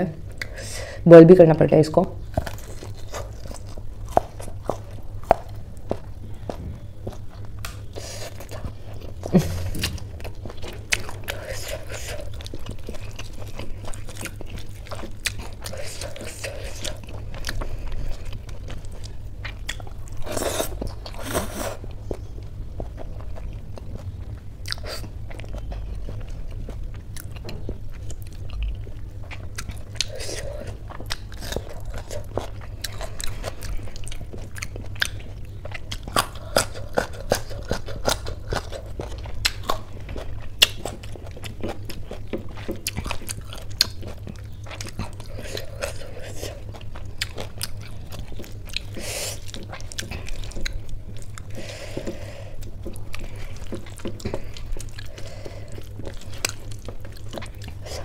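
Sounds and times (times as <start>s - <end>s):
chewing and crunching: 2.2s - 58.0s.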